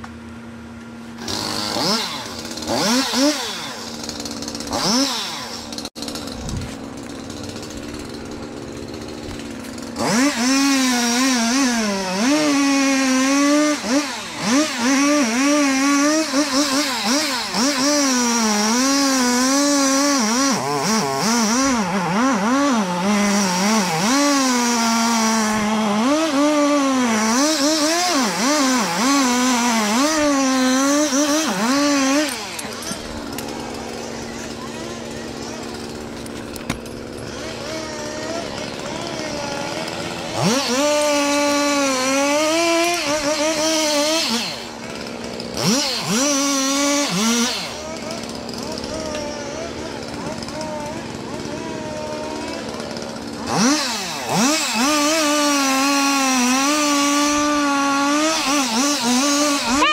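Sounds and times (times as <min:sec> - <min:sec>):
chainsaw idling and cutting: 0:00.0 - 0:59.9.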